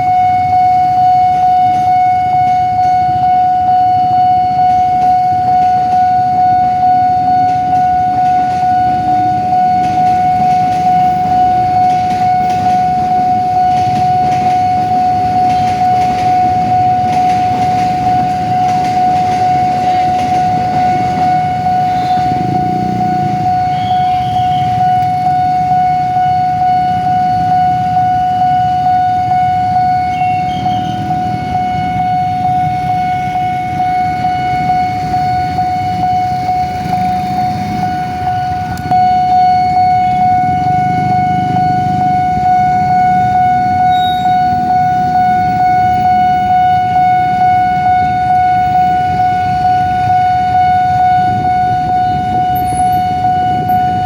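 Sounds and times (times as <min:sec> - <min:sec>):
level crossing warning alarm: 0:00.0 - 0:54.0
low rumble of vehicles: 0:00.0 - 0:54.0.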